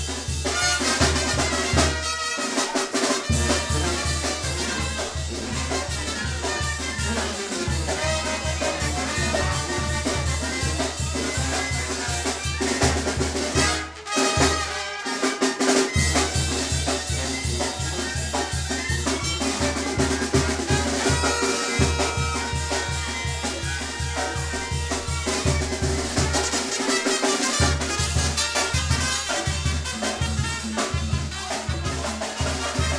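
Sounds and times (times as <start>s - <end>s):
brass band playing dance music: 0.0s - 32.9s.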